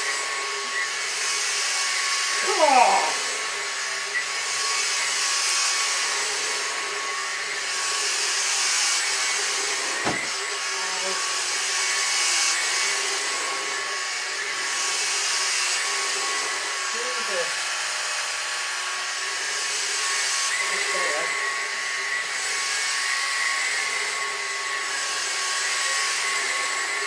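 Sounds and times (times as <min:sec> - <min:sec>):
vacuum cleaner whine: 0:00.0 - 0:27.0.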